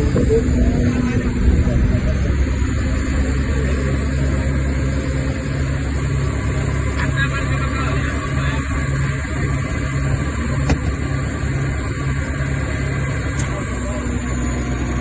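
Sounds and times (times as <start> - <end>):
constant rushing noise: 0.0 - 15.0
motorboat engine droning: 0.0 - 15.0.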